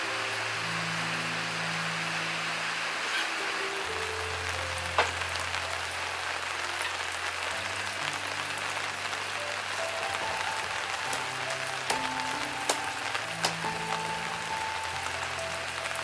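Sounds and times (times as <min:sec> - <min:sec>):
slow sustained background music: 0:00.0 - 0:16.0
steady hiss: 0:00.0 - 0:16.0.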